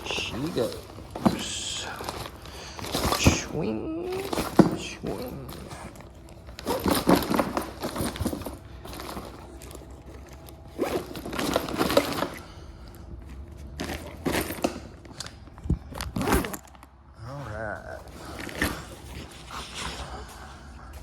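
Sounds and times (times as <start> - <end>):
backpack rustling and zipping: 0.0 - 20.7.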